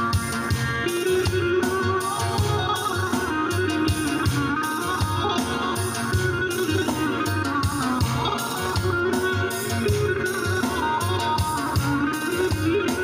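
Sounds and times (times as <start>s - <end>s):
amplified plucked string melody: 0.0s - 13.0s
bass: 0.0s - 13.0s
drums: 0.0s - 13.0s.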